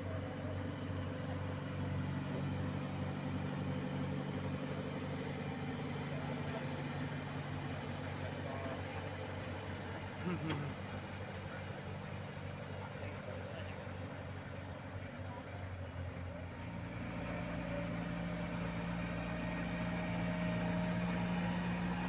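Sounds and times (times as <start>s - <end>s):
diesel engines humming: 0.0s - 22.0s.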